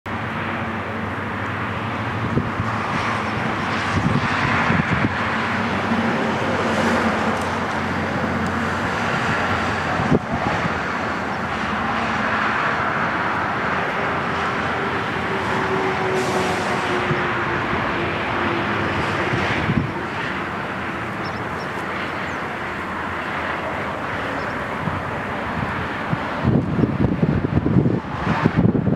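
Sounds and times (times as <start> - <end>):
turboprop engine running: 0.1 - 28.9.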